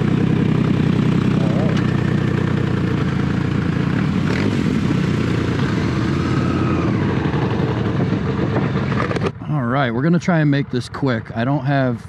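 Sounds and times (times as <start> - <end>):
motorcycle engine idling: 0.0 - 12.0
second motorcycle engine running: 0.0 - 12.0.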